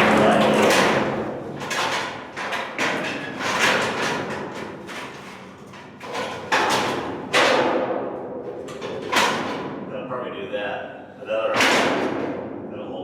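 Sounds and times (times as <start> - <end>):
metal knocks and clanks: 0.0 - 10.0, 11.5 - 12.5.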